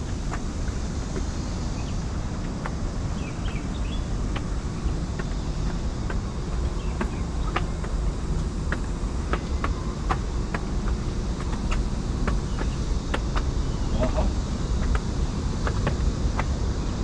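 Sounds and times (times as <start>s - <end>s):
city background noise: 0.0s - 17.0s
low wind rumble: 0.0s - 17.0s.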